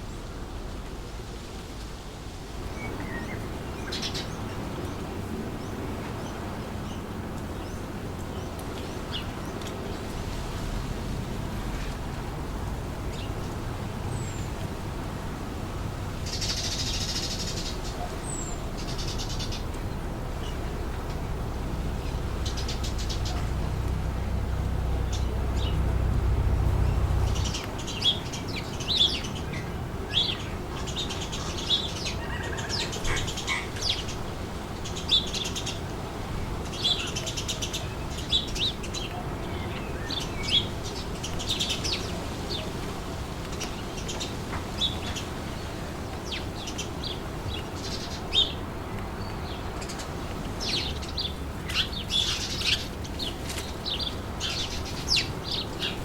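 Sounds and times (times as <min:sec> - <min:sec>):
low wind rumble: 0:00.0 - 0:56.0
wind: 0:00.0 - 0:56.0
small birds chirping: 0:02.6 - 0:56.0.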